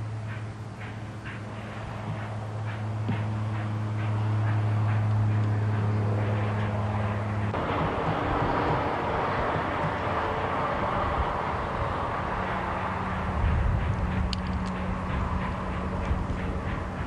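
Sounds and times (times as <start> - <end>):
steam locomotive exhaust roar: 0.0 - 17.0.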